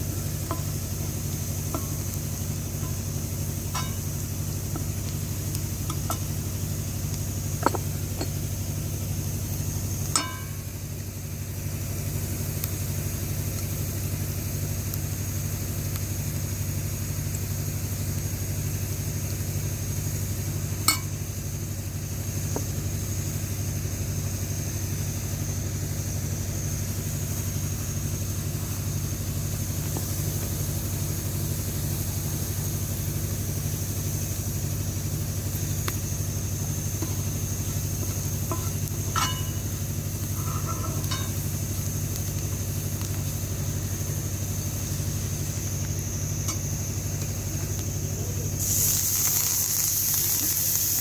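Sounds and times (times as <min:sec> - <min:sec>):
small engine idling: 0:00.0 - 0:51.0.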